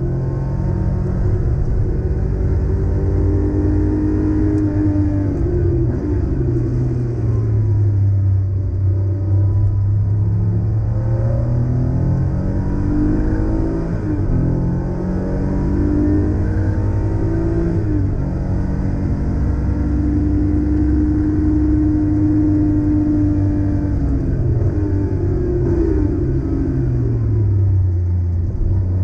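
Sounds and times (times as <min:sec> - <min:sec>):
car engine accelerating with upshifts: 0:00.0 - 0:29.0.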